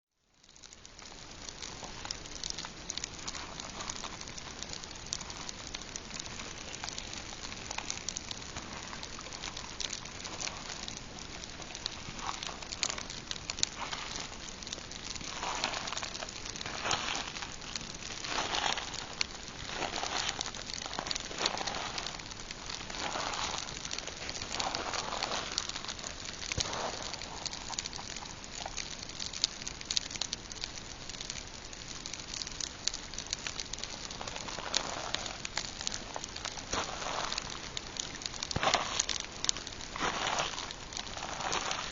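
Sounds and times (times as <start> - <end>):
campfire crackling and popping: 0.1 - 41.9.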